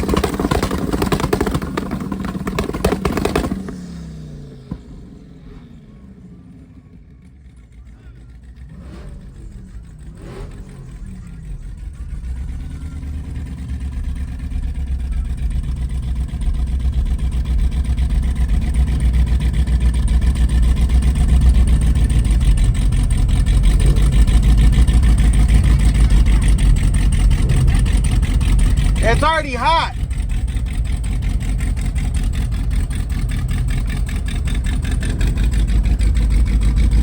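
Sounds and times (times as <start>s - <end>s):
car engine pulsing exhaust: 0.0s - 37.0s.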